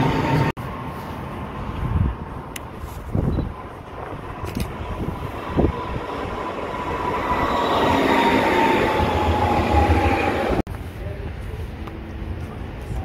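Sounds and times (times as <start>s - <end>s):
high steady tram whine: 0.0s - 13.0s
tram passing on tracks: 0.0s - 13.0s.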